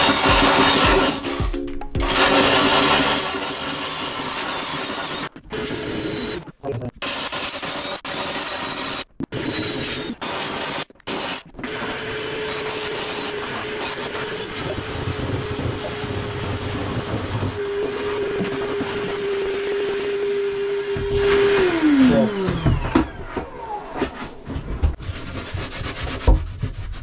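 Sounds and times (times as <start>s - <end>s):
power sander running: 0.0s - 6.4s, 7.0s - 24.1s.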